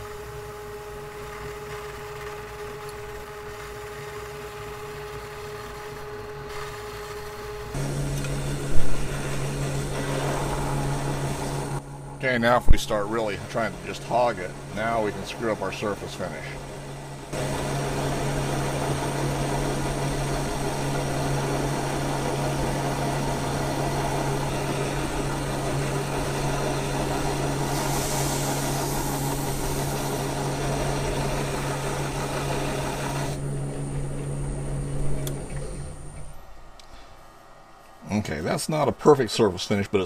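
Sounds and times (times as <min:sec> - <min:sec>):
lathe motor humming: 0:00.0 - 0:40.0.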